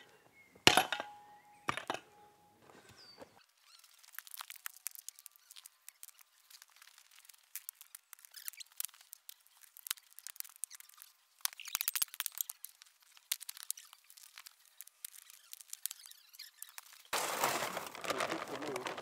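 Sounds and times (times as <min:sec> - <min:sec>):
rocks clicking and scraping: 0:03.5 - 0:19.0.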